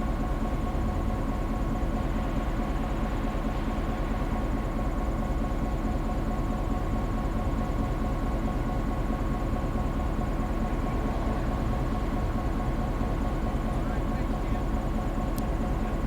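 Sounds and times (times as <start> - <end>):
diesel locomotive engine running: 0.0 - 16.0.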